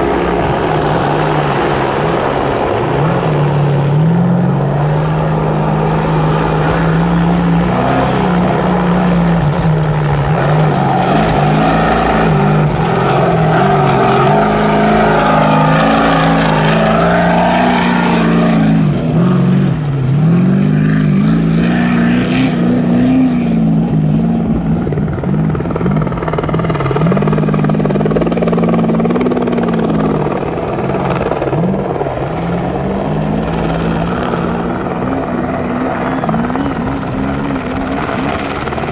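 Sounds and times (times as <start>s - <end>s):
race truck engine revving: 0.0s - 38.9s.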